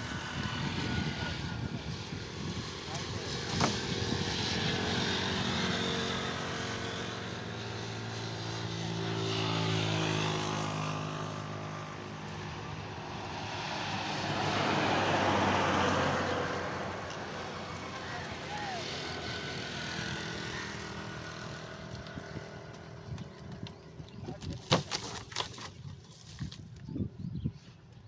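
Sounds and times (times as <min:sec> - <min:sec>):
traffic passing: 0:00.0 - 0:24.0
vehicle engine hum: 0:00.0 - 0:24.6.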